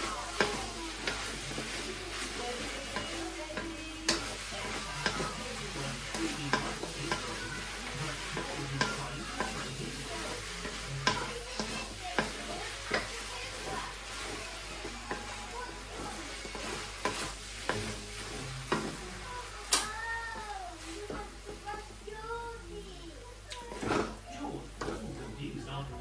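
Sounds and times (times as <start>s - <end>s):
wooden spatula scraping wok: 0.0s - 22.6s, 23.6s - 25.2s
noodles sizzling in a wok: 0.0s - 26.0s.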